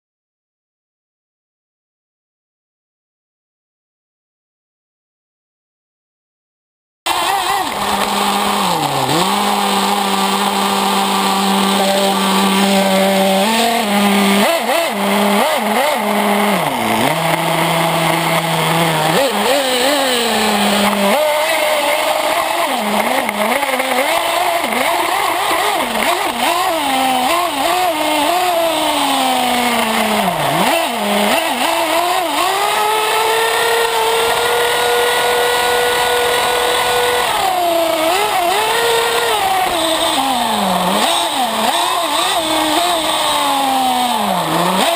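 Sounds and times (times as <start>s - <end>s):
small nitro engine revving: 7.1s - 44.9s.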